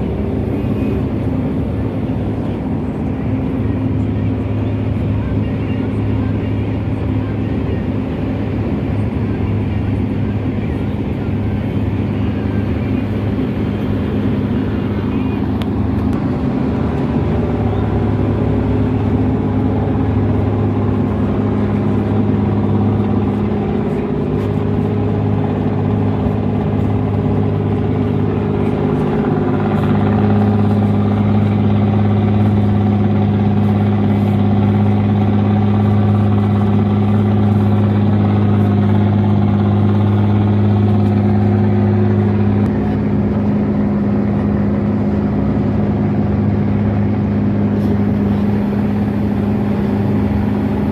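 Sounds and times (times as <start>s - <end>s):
ship diesel engine humming: 0.0s - 50.9s.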